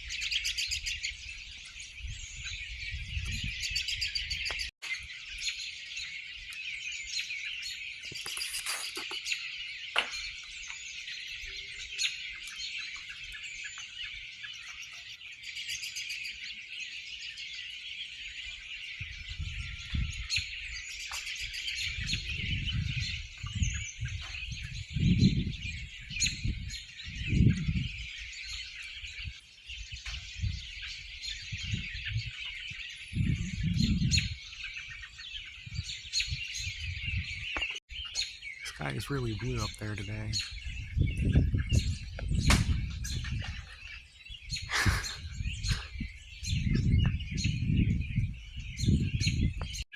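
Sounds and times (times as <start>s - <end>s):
flock of birds chirping: 0.0s - 49.9s.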